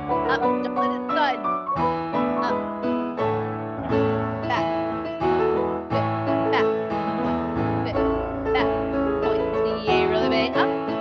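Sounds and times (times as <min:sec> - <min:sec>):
piano playing chords: 0:00.0 - 0:11.0.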